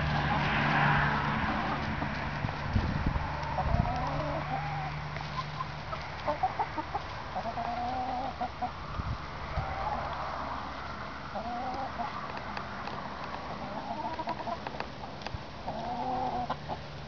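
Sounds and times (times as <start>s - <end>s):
hens clucking: 0.0s - 16.9s.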